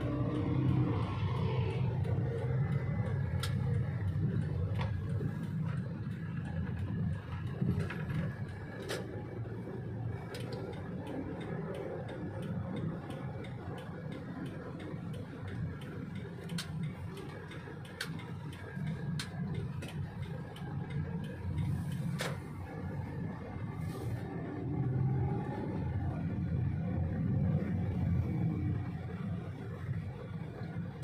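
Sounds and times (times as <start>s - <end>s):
car engine and road rumble: 0.0s - 31.0s
turn signal ticking: 0.0s - 31.0s.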